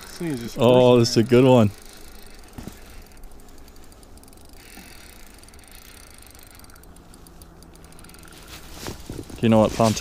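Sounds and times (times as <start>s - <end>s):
fishing reel clicking rapidly: 0.0s - 8.4s.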